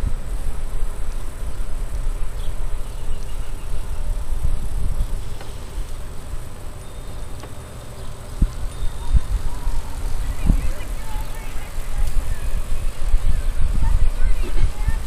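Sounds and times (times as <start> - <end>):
bicycle tyre road noise: 0.0 - 15.0
wind buffeting microphone: 0.0 - 15.0.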